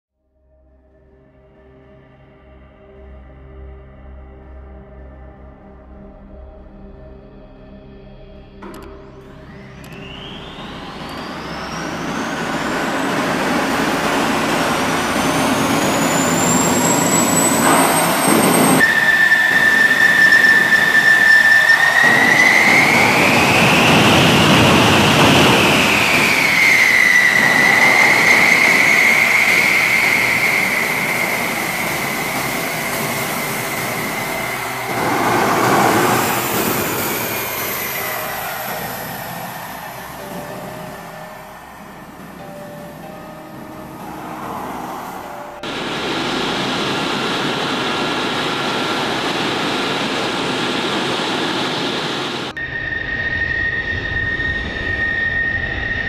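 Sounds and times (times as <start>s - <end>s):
jet engine whine: 8.0s - 56.0s
jet engine rush: 9.3s - 56.0s.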